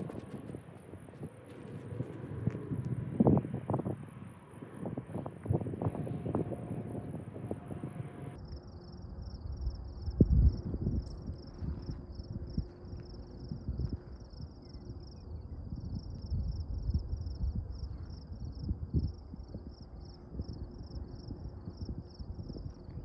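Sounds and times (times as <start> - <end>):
insect chirping: 0.0 - 23.0
wind rumbling on microphone: 0.0 - 23.0.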